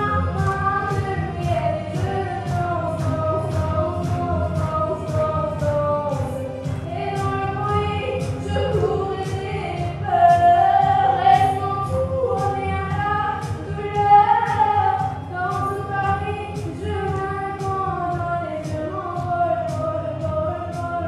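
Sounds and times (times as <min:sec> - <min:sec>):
backing music with steady beat: 0:00.0 - 0:21.0
woman singing: 0:00.0 - 0:21.0.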